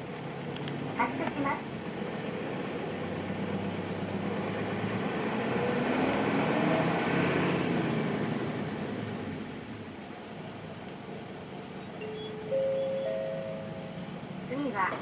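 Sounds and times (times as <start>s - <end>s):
bus diesel engine accelerating: 0.0s - 15.0s.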